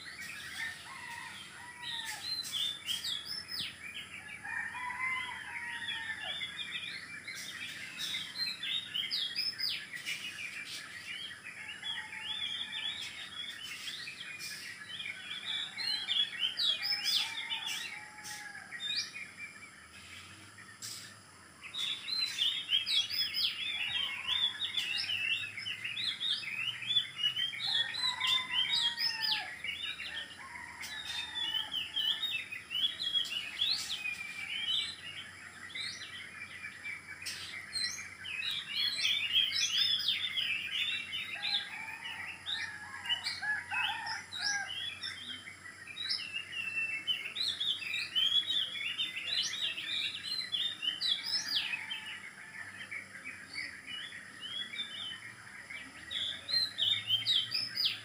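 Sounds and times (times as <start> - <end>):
chorus of birds chirping: 0.0 - 58.0.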